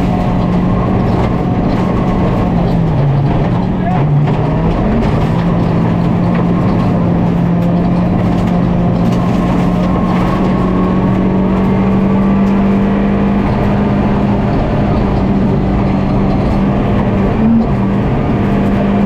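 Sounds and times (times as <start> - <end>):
rally car engine revving high: 0.0 - 19.0
road and tyre noise: 0.0 - 19.0.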